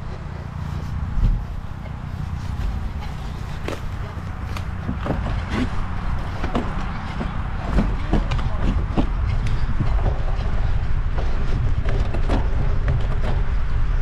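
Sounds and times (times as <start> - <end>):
bike knocking and rattling: 0.0 - 14.0
tyres and wind rumbling: 0.0 - 14.0.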